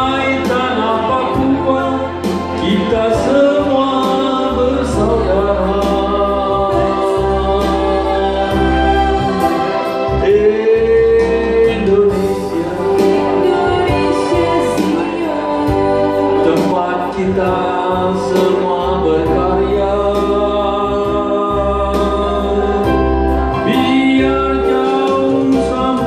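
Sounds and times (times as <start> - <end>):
instrumental accompaniment: 0.0 - 26.0
man and woman singing duet: 0.0 - 26.0.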